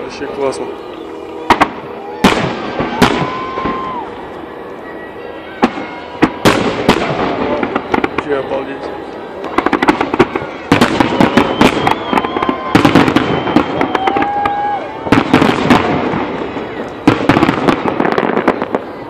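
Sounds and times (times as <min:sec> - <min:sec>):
fireworks bursting and crackling: 0:00.0 - 0:04.5, 0:05.4 - 0:19.0.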